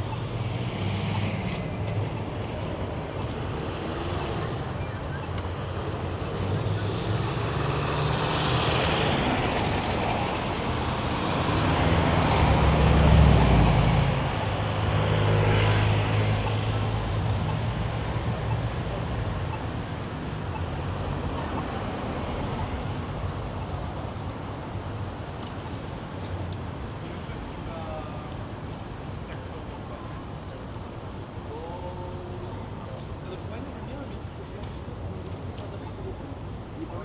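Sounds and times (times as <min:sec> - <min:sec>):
vehicles passing with engine rumble: 0:00.0 - 0:37.0.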